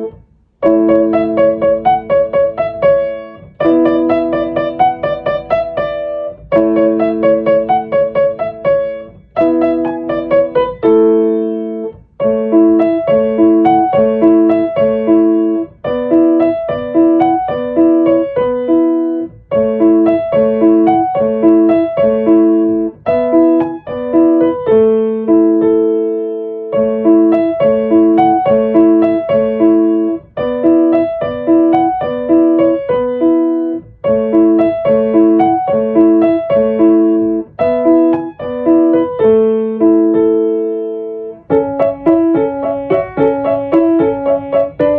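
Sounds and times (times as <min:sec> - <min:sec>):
solo piano melody: 0:00.0 - 0:44.9.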